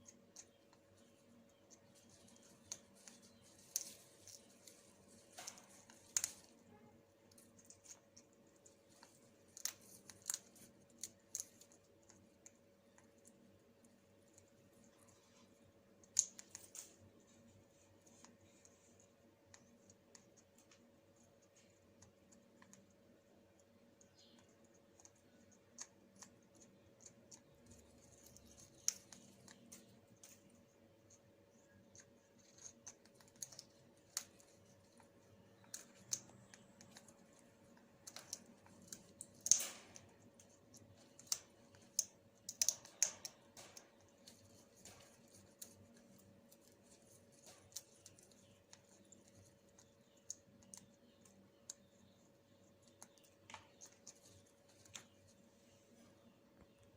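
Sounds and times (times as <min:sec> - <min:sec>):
parrot nibbling and tearing leaves: 0:00.0 - 0:56.0.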